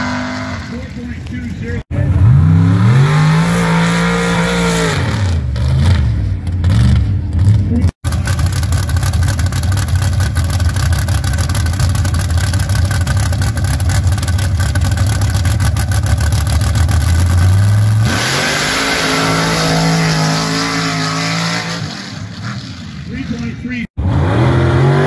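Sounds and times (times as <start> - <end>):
buggy engine idling and revving: 0.0 - 25.0.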